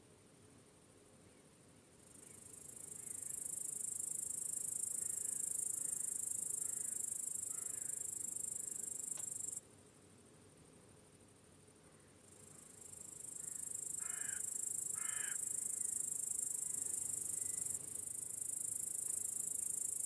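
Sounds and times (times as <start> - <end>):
high-pitched cricket chorus trilling: 1.9 - 9.6, 10.9 - 20.0.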